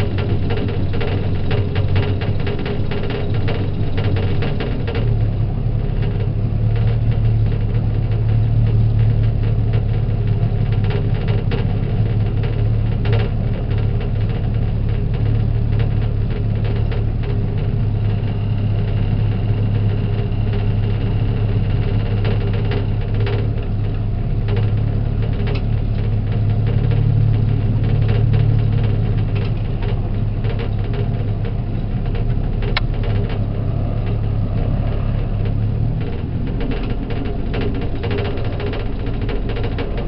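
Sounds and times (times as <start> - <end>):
motor boat engine droning: 0.0 - 40.0.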